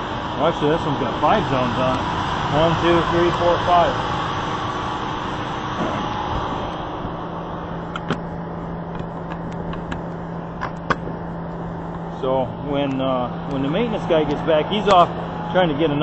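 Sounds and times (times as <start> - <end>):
rooftop hvac unit humming: 0.0 - 16.0.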